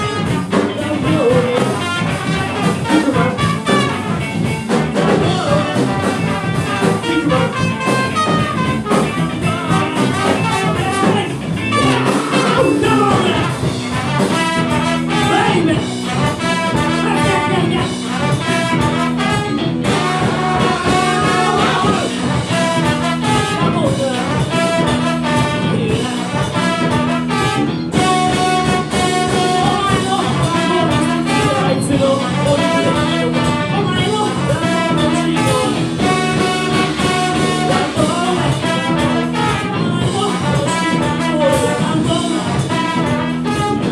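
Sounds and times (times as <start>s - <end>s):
brass section: 0.0s - 43.9s
live funk band playing: 0.0s - 43.9s.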